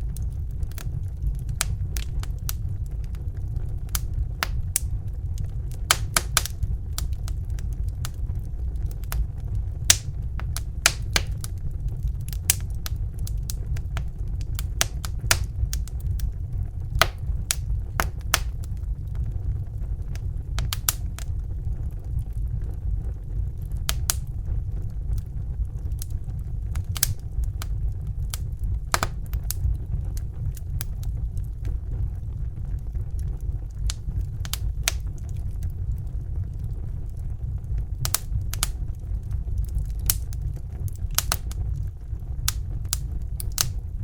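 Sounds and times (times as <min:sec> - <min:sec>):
fire low rumble: 0:00.0 - 0:44.0
fire popping and snapping: 0:00.0 - 0:44.0.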